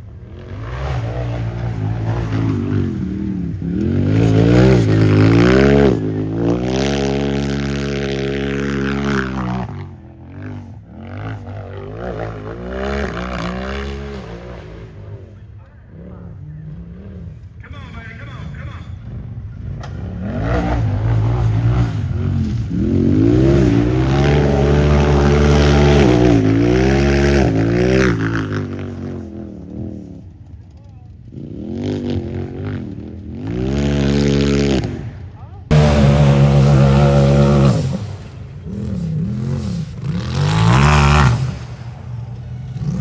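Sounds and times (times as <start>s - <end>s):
engine revving high: 0.0s - 15.2s, 19.8s - 30.0s, 31.5s - 43.0s.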